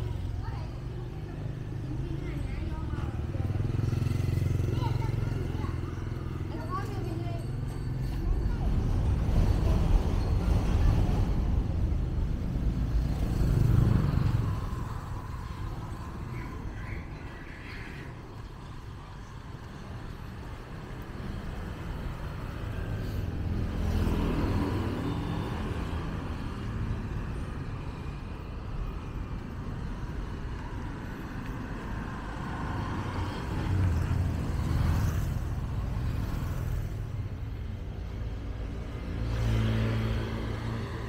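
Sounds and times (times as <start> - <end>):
motorbike engines passing: 0.0 - 41.0
steady traffic noise: 0.0 - 41.0.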